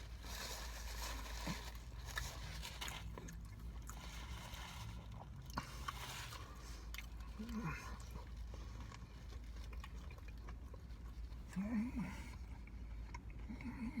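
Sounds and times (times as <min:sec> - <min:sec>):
person chewing crispy food: 0:00.0 - 0:14.0.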